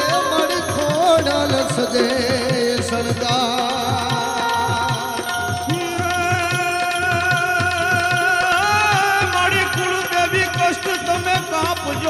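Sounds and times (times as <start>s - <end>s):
devotional folk music: 0.0s - 12.0s.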